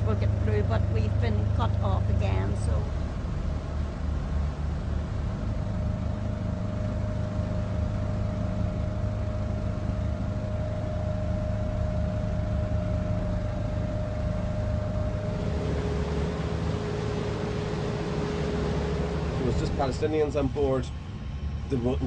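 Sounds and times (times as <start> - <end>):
boat engine droning: 0.0 - 22.0
faint steady whine: 0.0 - 22.0.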